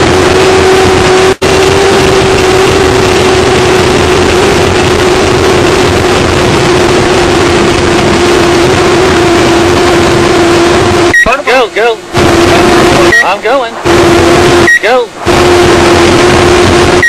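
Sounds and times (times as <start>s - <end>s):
powerboat engines droning: 0.0s - 17.0s
rushing water noise: 0.0s - 17.0s.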